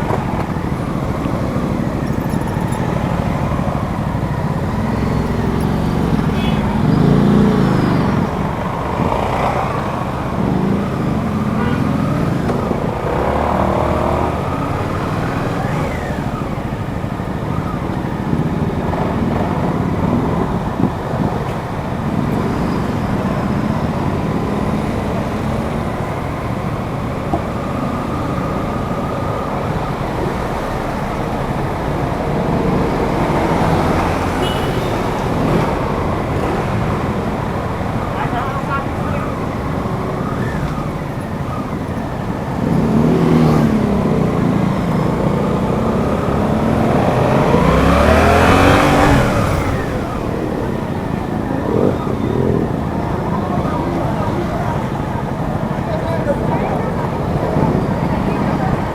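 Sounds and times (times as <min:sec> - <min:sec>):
motorcycle engine revving: 0:00.0 - 0:56.1
road noise: 0:00.0 - 0:58.9.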